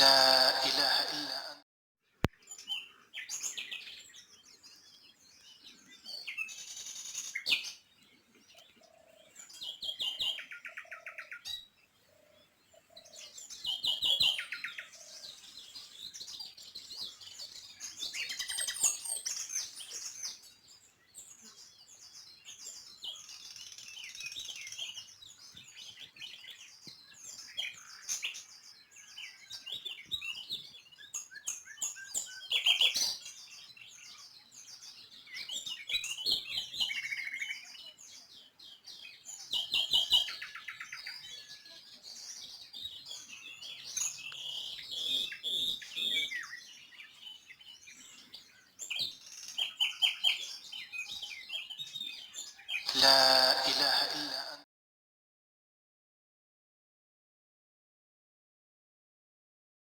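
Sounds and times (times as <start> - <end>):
small songbirds chirping: 2.0 - 54.1.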